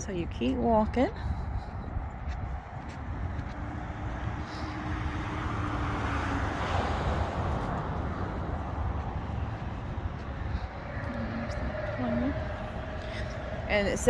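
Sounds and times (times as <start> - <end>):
road traffic noise: 0.0 - 14.0
vehicle passing: 0.0 - 14.0.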